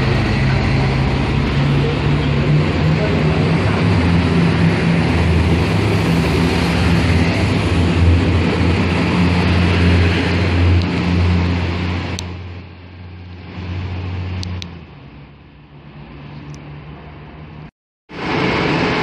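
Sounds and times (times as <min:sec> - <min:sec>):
diesel train engines droning: 0:00.0 - 0:19.0.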